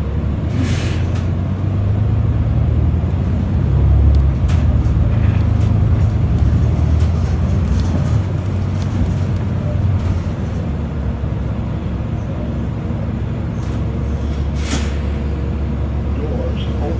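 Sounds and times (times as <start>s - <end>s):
bus engine drone: 0.0s - 16.9s
road noise: 0.0s - 16.9s.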